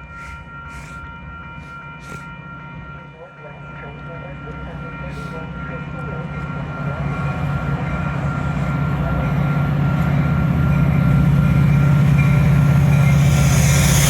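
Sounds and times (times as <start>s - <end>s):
diesel train engine humming: 0.0s - 14.0s.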